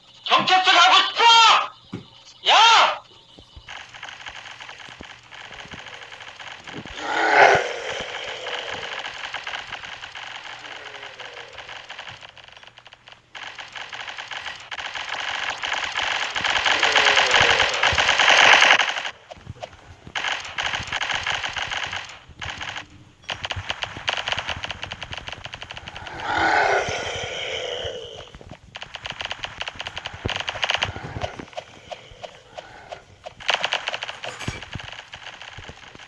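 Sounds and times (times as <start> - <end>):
fast rattle of clicks: 3.3 - 36.0.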